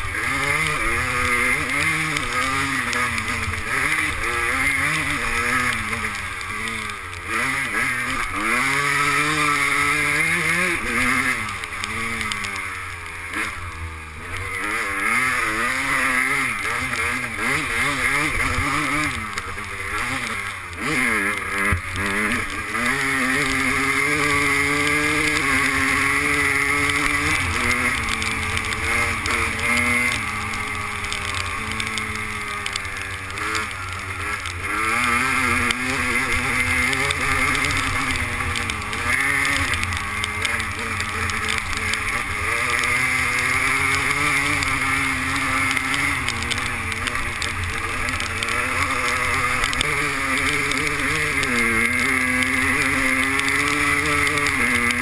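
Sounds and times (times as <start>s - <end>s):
two-stroke motocross engine revving: 0.0s - 55.0s.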